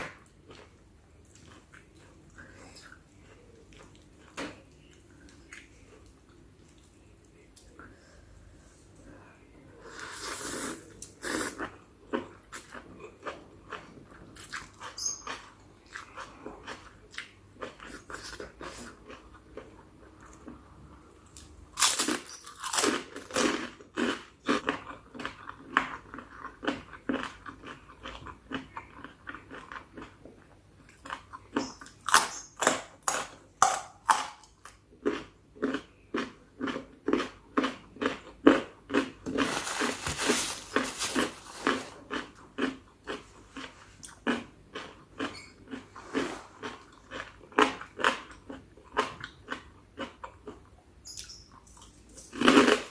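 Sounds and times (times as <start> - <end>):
chewing and crunching: 0.1 - 7.4, 11.0 - 33.4, 34.1 - 52.9.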